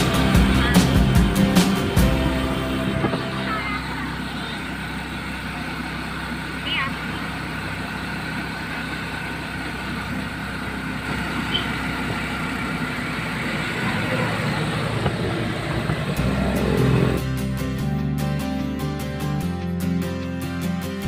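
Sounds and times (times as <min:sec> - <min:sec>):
motor tricycle engine and road rumble: 0:00.0 - 0:21.0.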